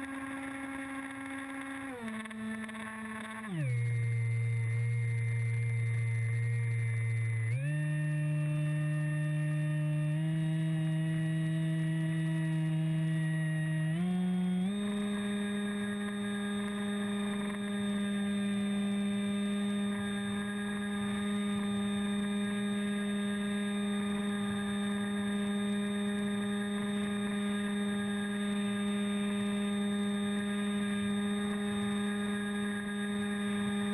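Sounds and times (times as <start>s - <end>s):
model aircraft motor humming: 0.0s - 33.9s.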